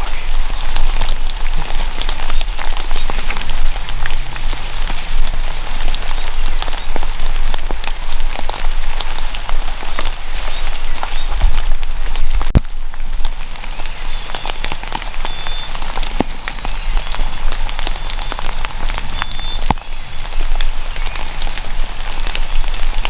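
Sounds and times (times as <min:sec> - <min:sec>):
raindrops hitting close by: 0:00.0 - 0:23.0
steady rain: 0:00.0 - 0:23.0.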